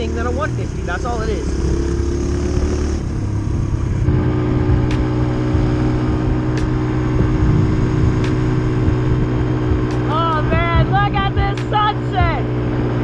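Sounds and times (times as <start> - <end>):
dirt bike engine: 0.0 - 13.0.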